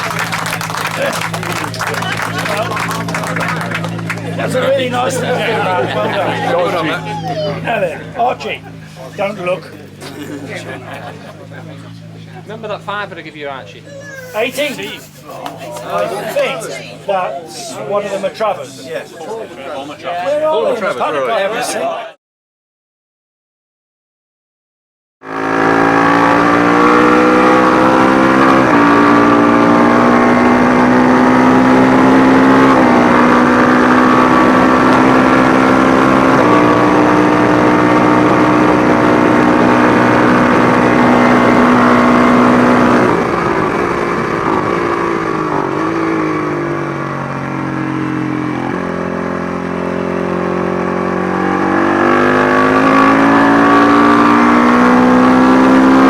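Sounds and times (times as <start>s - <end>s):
racing motorcycle engine revving: 0.0s - 18.7s, 25.2s - 56.0s.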